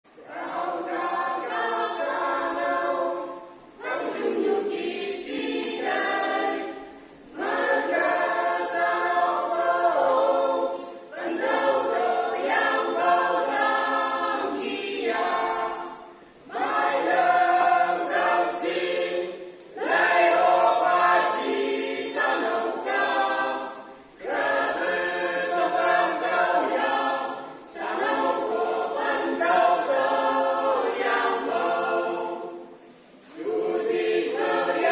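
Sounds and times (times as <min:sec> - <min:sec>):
children's choir singing unaccompanied: 0:00.0 - 0:34.9.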